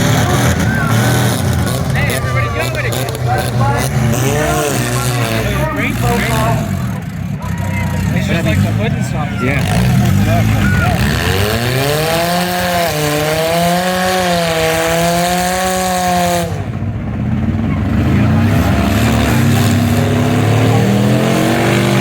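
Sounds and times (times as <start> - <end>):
car engines revving hard: 0.0 - 22.0.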